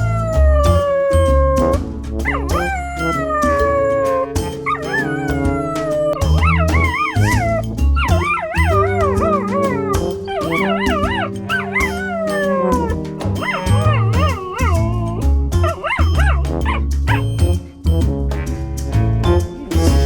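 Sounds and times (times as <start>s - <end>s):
dog howling and whining: 0.0s - 17.2s
background music with steady beat: 0.0s - 20.0s.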